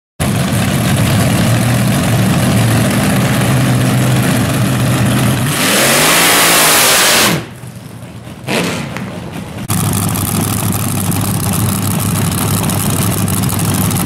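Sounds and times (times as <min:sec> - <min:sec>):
dragster engine revving: 0:00.2 - 0:14.0
tyres spinning with rushing noise: 0:00.2 - 0:14.0.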